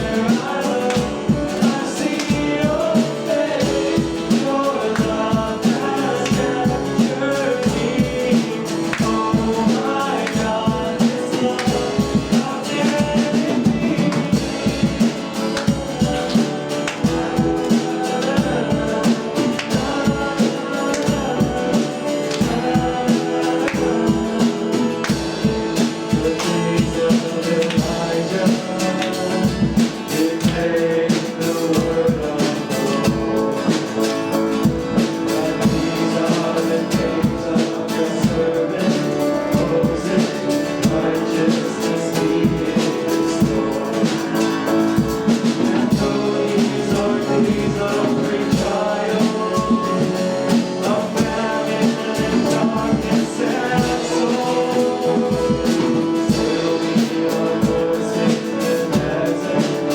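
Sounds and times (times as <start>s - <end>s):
band playing a song: 0.0s - 59.9s
drum kit beat: 0.0s - 59.9s
guitar: 0.0s - 59.9s.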